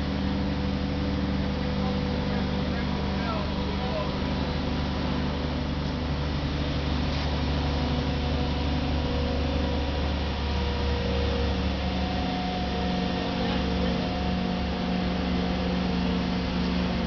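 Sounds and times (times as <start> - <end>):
crane engine humming: 0.0 - 17.0.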